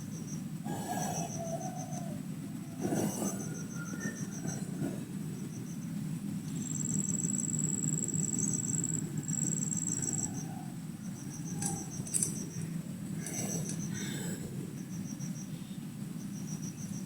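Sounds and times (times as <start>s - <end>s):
insect high whine: 0.0s - 17.0s
insects trilling: 0.0s - 17.0s.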